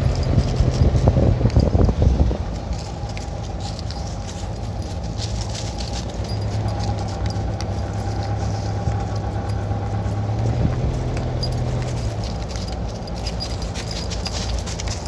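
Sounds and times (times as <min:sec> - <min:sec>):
car engine and tyres humming: 0:00.0 - 0:15.0.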